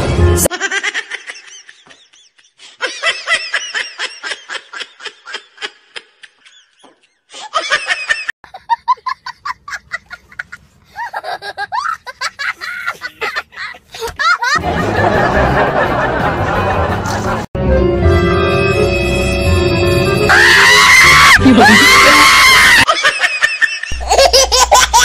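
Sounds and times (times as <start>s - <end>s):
people laughing: 0.5s - 17.5s, 20.9s - 25.0s.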